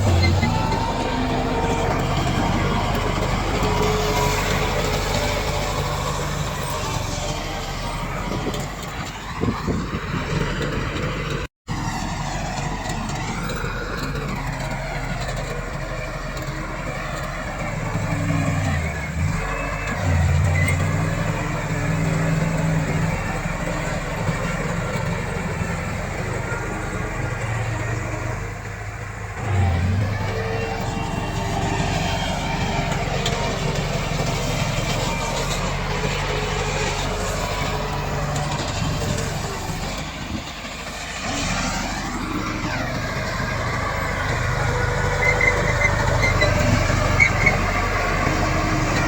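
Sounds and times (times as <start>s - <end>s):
bulldozer diesel engine lugging: 0.0s - 49.0s.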